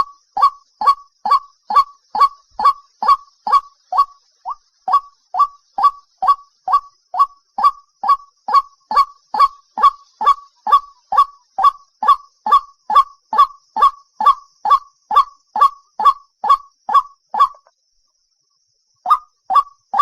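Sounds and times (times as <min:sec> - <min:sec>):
bird kwak call: 0:00.0 - 0:17.7, 0:19.0 - 0:20.0.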